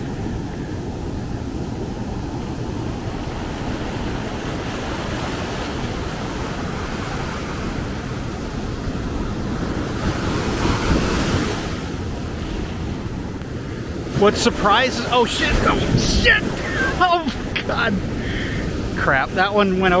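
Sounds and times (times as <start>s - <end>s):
heavy surf roaring: 0.0s - 20.0s
wave breaking close by: 0.0s - 20.0s.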